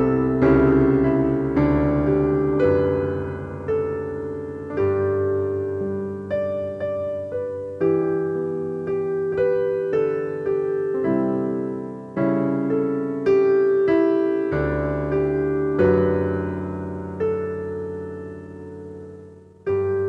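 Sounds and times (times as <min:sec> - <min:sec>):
piano chords ringing: 0:00.0 - 0:20.0.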